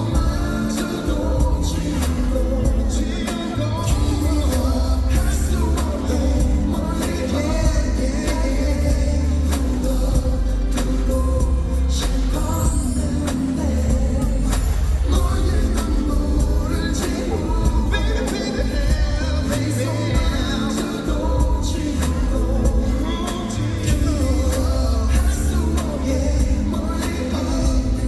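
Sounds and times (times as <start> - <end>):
pop song over sound system: 0.0 - 28.0.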